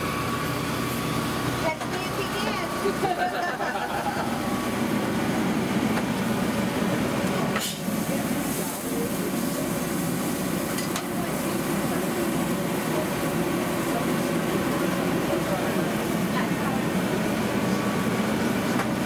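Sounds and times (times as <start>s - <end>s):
exhaust hood running: 0.0s - 19.0s
patty sizzling on a grill: 3.1s - 19.0s.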